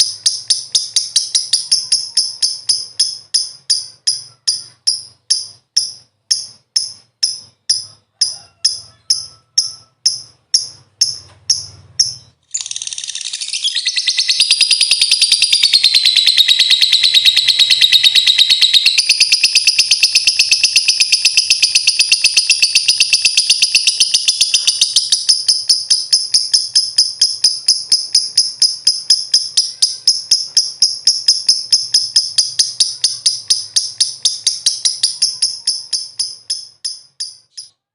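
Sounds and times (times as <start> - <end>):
bird trilling high chirps: 0.0 - 37.9.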